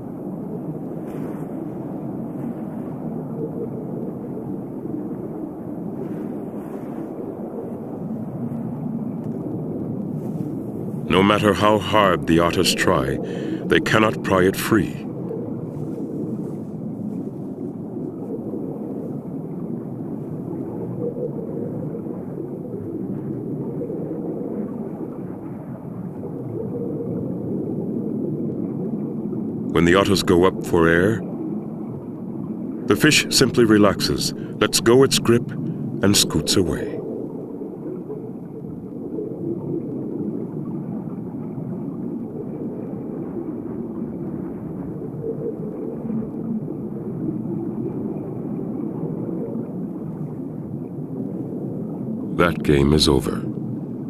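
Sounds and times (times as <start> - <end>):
underwater rumble of moving water: 0.0 - 54.0.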